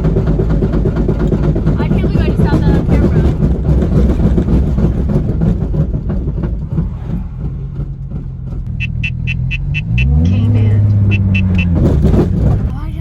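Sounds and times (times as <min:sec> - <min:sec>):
loud car exhaust crackling: 0:00.0 - 0:13.0.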